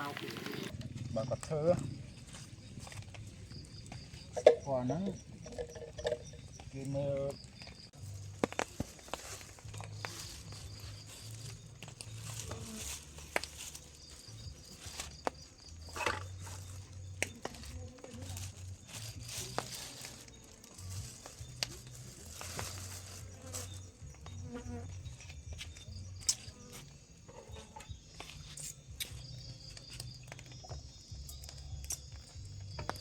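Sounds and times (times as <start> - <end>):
insects buzzing and trilling: 0.0 - 33.0.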